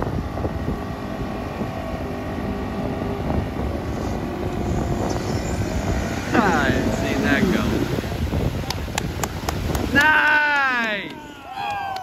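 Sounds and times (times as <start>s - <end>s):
small boat motor running: 0.0s - 11.5s
wind buffeting microphone: 0.0s - 12.0s.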